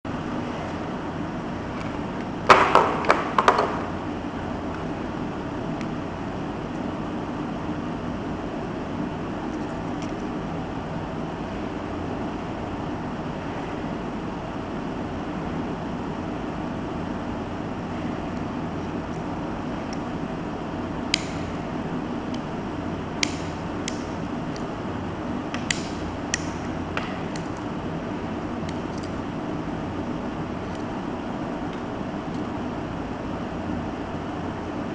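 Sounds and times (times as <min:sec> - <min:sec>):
background hum and hiss: 0:00.0 - 0:34.9.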